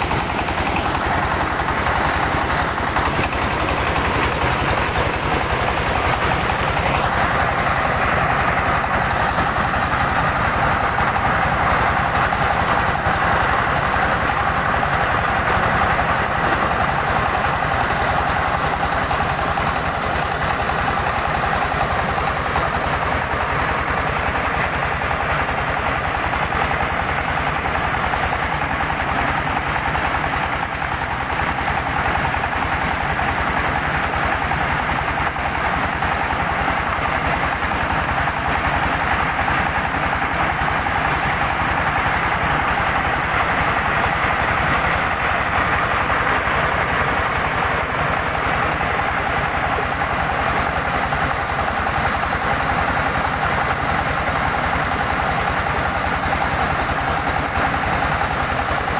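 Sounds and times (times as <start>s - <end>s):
corn sheller running: 0.0s - 58.9s.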